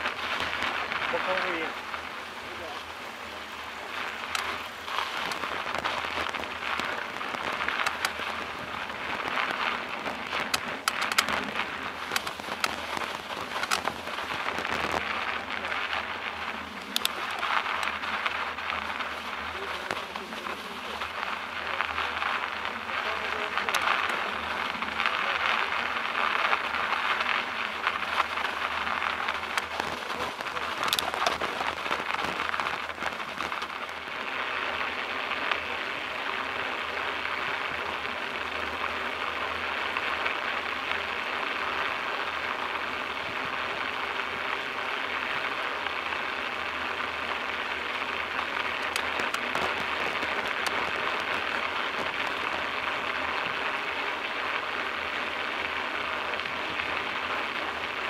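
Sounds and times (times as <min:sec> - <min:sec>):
tyres rolling on packed snow: 0:00.0 - 0:58.0.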